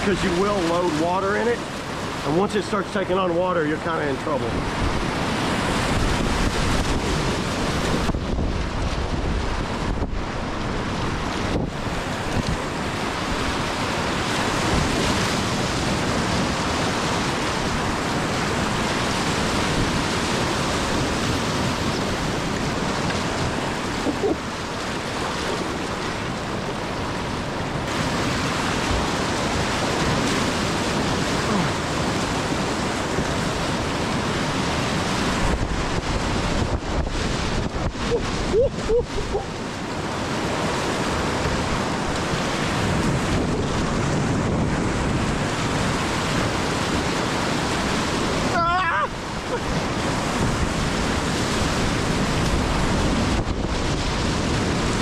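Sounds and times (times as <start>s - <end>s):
whitewater rapids rushing: 0.0s - 55.0s.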